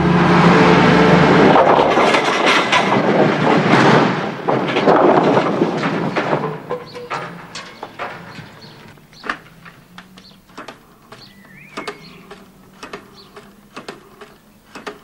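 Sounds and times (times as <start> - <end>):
building site bangs and clatter: 0.0 - 15.0.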